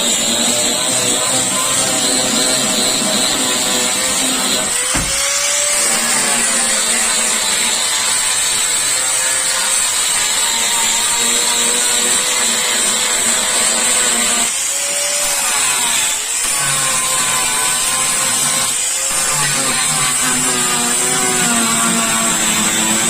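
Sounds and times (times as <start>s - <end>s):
power tool running: 0.0s - 23.0s.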